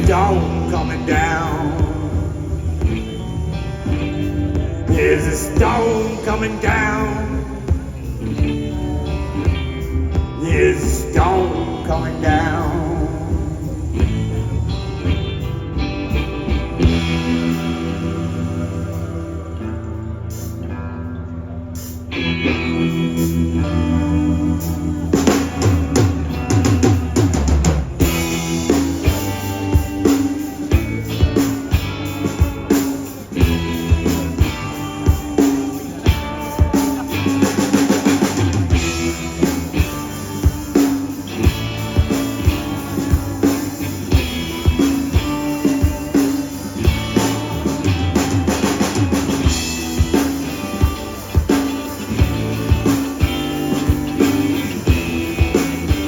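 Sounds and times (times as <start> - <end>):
drum kit beat: 0.0 - 19.3, 24.6 - 56.0
guitar: 0.0 - 56.0
sustained bass line: 0.0 - 56.0.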